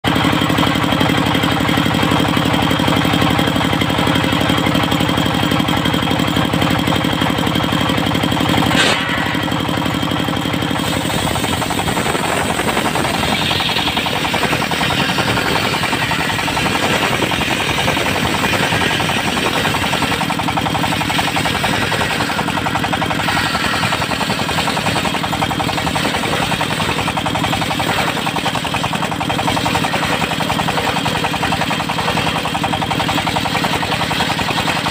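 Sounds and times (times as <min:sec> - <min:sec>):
engine-driven sawmill running: 0:00.0 - 0:34.9.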